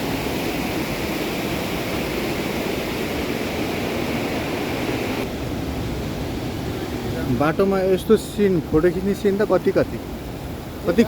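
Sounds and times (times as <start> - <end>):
fast-flowing water rushing: 0.0 - 11.0.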